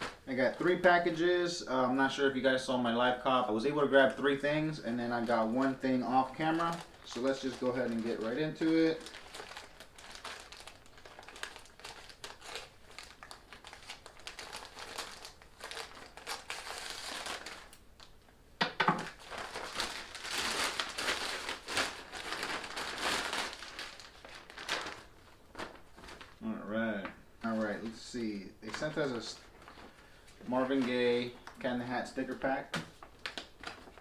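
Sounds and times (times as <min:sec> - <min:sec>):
packaging crinkling and rustling: 0:00.0 - 0:01.2, 0:04.0 - 0:18.2, 0:19.0 - 0:26.4, 0:28.7 - 0:34.0.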